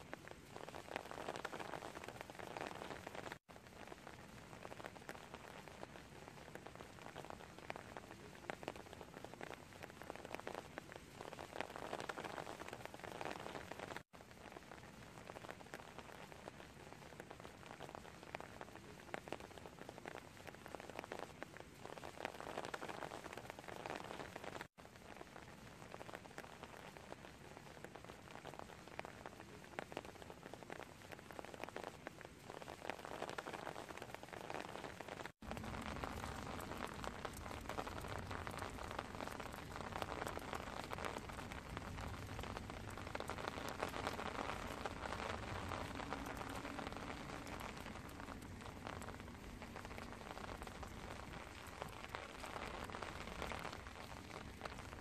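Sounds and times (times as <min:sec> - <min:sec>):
rain on wet stone paving: 0:00.0 - 0:55.0.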